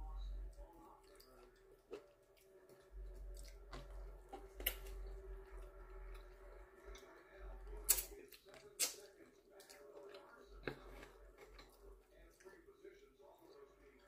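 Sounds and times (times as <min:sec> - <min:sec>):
faint steady hum: 0:00.0 - 0:14.0
chewing and lip-smacking: 0:00.1 - 0:14.0.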